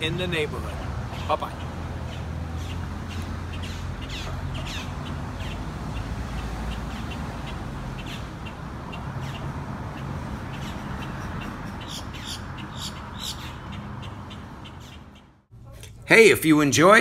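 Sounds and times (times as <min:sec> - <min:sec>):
birds calling: 0:00.0 - 0:15.5.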